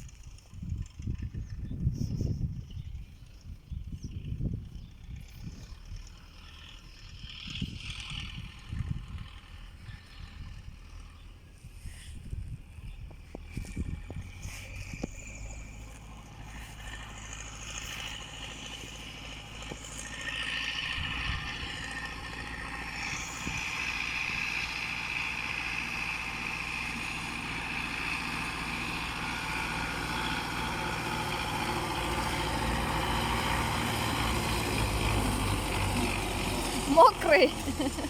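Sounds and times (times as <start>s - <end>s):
engine running with hissing whine: 4.1s - 38.0s.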